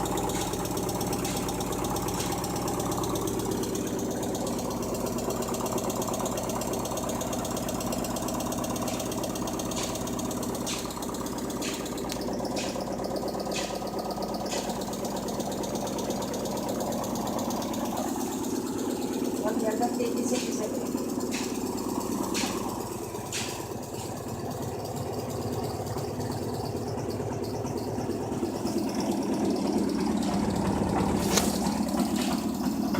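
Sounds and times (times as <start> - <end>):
washing machine running: 0.0 - 32.9.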